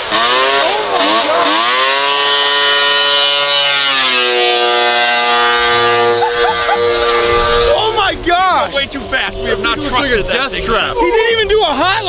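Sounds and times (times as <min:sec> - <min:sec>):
two-stroke engine at full throttle: 0:00.0 - 0:12.0.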